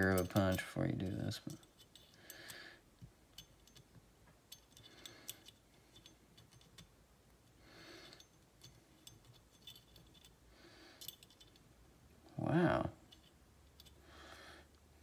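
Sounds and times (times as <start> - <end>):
small clicks of steel parts: 0.0 - 10.4, 11.0 - 12.4, 13.0 - 14.8.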